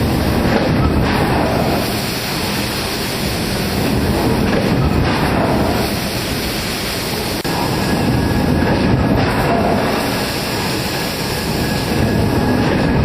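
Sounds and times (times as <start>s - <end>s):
industrial machinery rumble: 0.0s - 13.0s.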